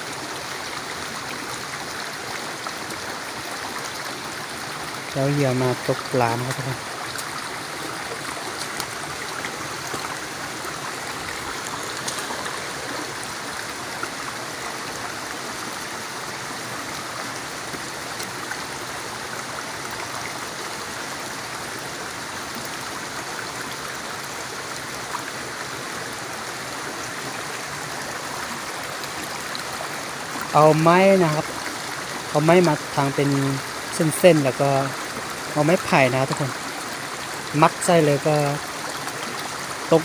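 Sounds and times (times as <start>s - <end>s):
stream running over stones: 0.0s - 40.0s.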